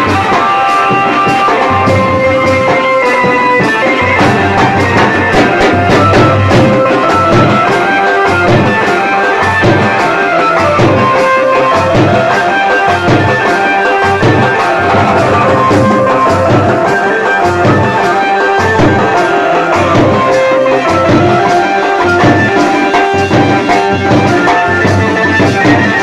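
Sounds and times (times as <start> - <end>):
live band music: 0.0 - 26.0.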